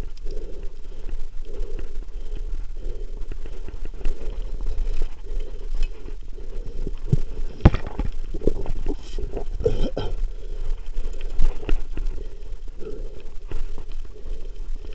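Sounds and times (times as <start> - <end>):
wind rumbling on microphone: 0.0 - 14.9.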